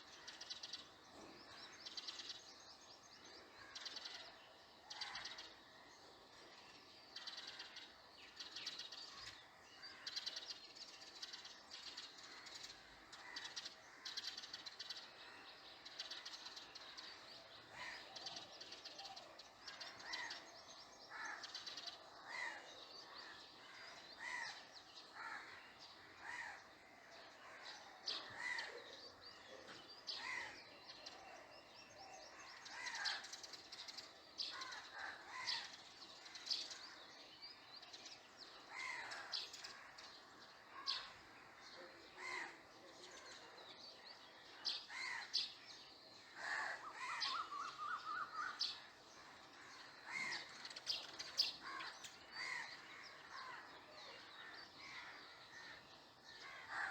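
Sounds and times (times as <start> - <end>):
birds calling and chirping: 0.0 - 56.9.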